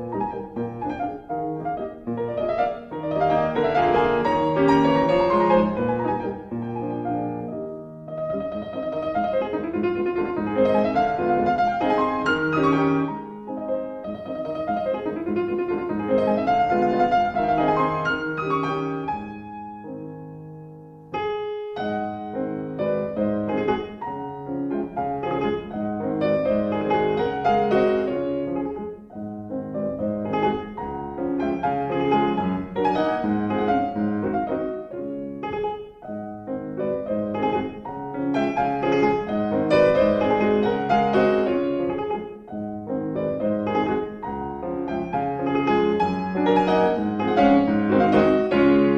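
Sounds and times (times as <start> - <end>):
gentle piano music: 0.0 - 48.9.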